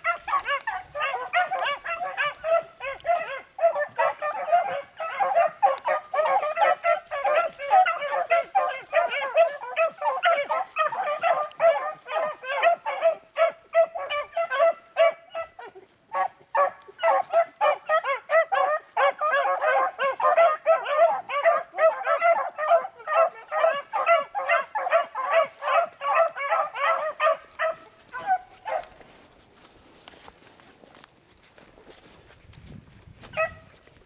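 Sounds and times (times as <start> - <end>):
dogs baying and barking: 0.0 - 30.2, 33.2 - 33.9.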